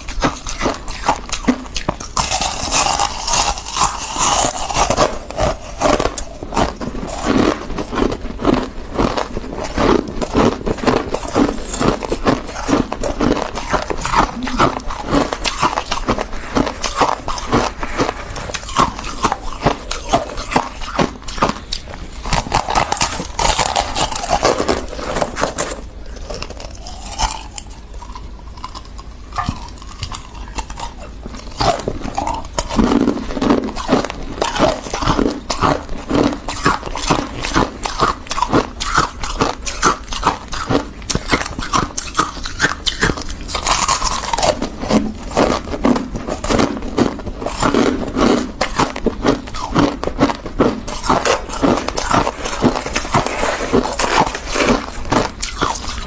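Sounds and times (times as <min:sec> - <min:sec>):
crunching and chewing frost: 0:00.0 - 0:56.0.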